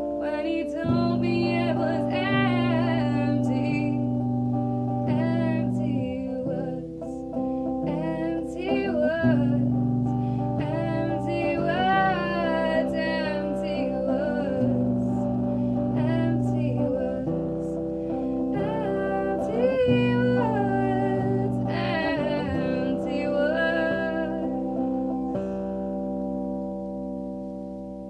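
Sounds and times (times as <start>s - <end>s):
woman singing: 0.0s - 25.3s
guitar chord ringing: 0.0s - 28.0s.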